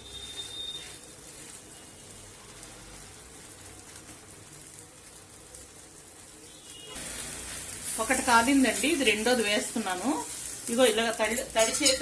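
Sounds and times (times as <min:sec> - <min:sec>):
roti sizzling in oil: 0:00.0 - 0:12.0.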